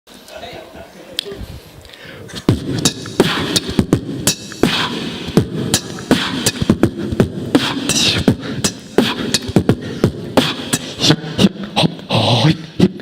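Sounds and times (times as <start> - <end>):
person beatboxing: 2.3 - 13.0.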